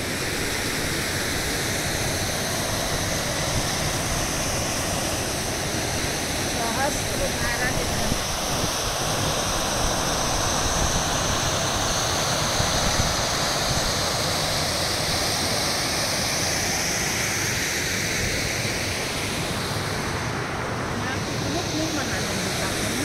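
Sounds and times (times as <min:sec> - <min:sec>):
river water rushing over rocks: 0:00.0 - 0:23.0.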